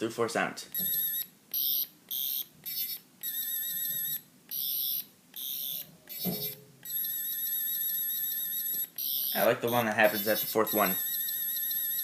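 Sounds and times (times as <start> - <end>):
toy warbling electronic buzz: 0.8 - 12.0.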